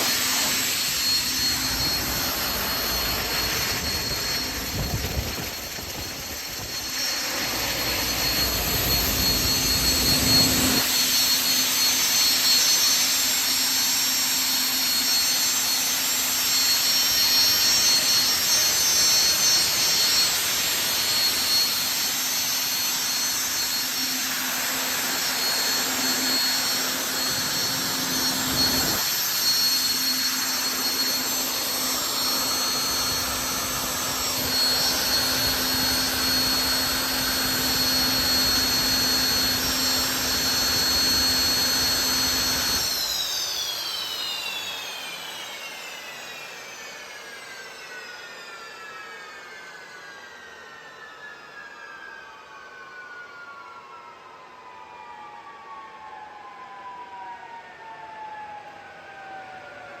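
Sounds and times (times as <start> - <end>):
turbine engine jet rush: 0.0 - 51.9
high-pitched turbine whine: 0.0 - 60.0.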